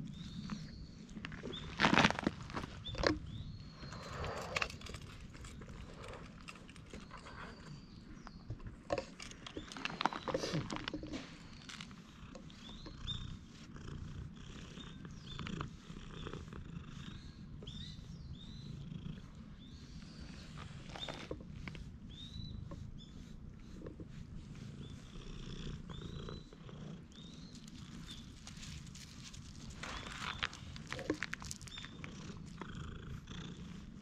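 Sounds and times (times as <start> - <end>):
cat purring: 0.0 - 34.0
brush strokes through fur: 3.6 - 34.0.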